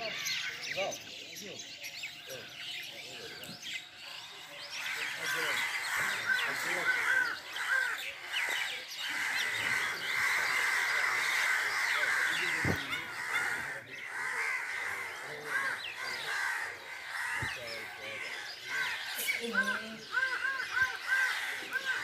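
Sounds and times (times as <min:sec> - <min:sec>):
crows cawing: 0:02.5 - 0:22.0.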